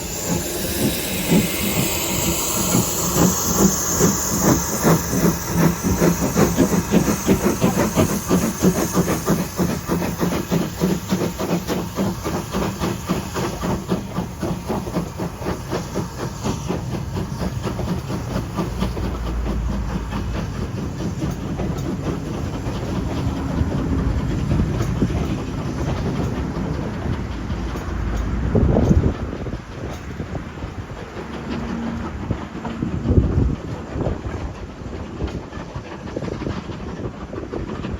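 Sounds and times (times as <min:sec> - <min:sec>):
steam hissing: 0:00.0 - 0:37.9
steam locomotive exhaust beats: 0:00.0 - 0:37.9
train rumble: 0:00.0 - 0:37.9.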